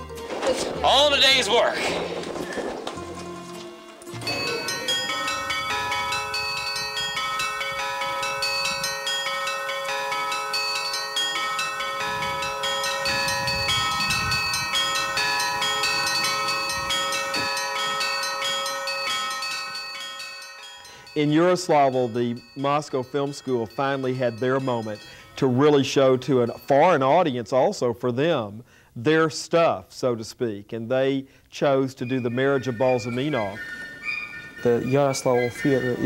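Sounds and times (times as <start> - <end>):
church bells ringing: 0.0 - 27.4, 32.0 - 36.0.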